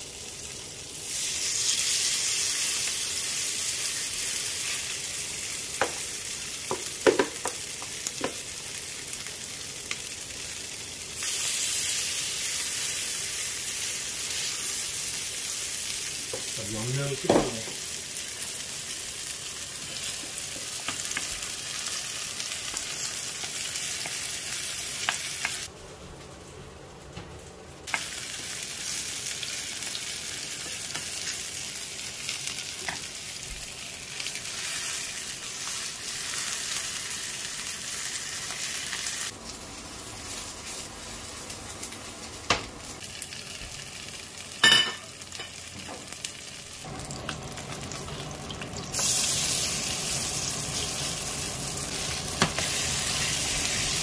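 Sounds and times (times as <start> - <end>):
pancakes sizzling in oil: 0.0 - 26.2, 27.8 - 54.0.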